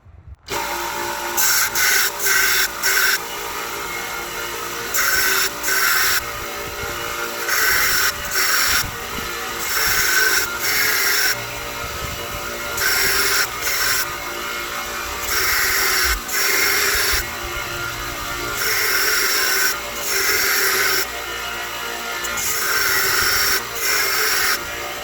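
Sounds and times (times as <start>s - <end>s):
belt grinder motor running: 0.5s - 25.0s
harsh grinding hiss of steel: 0.5s - 25.0s.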